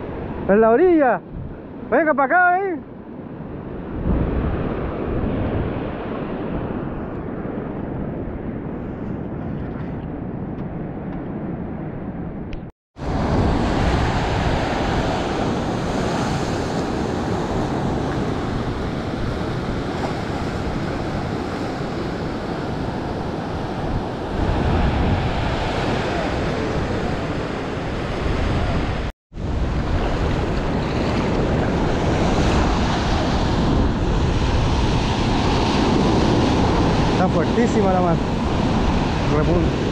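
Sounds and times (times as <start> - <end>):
wind buffeting microphone: 3.2 - 39.9
ocean surf breaking: 3.4 - 8.6, 13.0 - 39.9.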